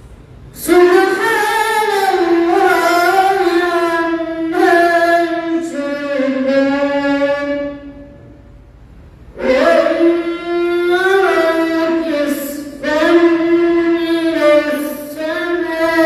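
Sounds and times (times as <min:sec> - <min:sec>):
boy reciting melodically: 0:00.5 - 0:08.5, 0:09.3 - 0:16.0.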